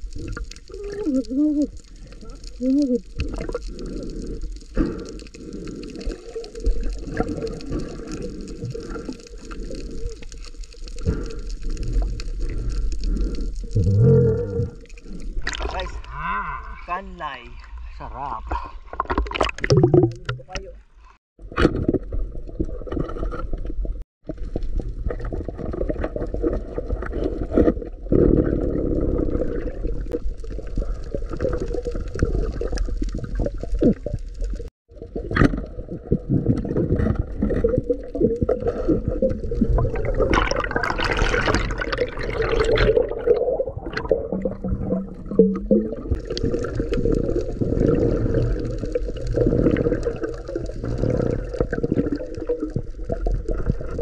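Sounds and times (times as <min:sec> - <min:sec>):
muffled water sloshing underwater: 0:00.0 - 0:16.7, 0:18.6 - 0:54.0.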